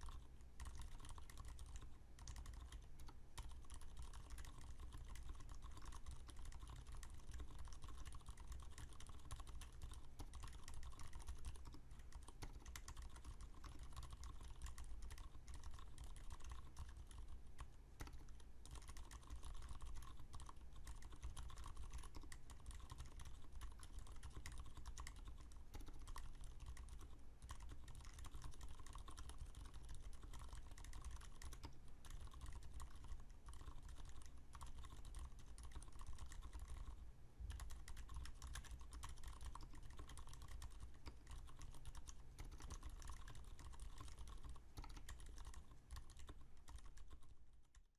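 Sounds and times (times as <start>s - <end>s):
fast typing on mechanical keyboard: 0.0s - 47.9s.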